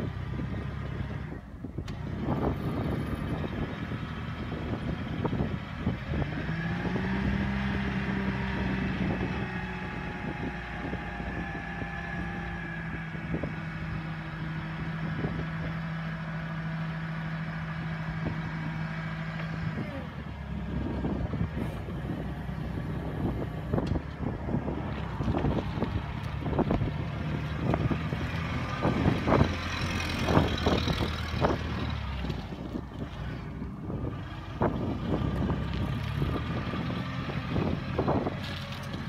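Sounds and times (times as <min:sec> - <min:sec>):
forklift engine running: 0:00.0 - 0:39.0.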